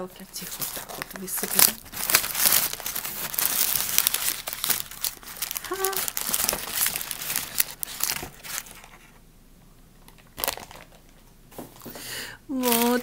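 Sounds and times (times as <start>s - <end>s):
candy wrappers crinkling: 0.0s - 9.2s, 10.1s - 11.2s, 12.5s - 13.0s.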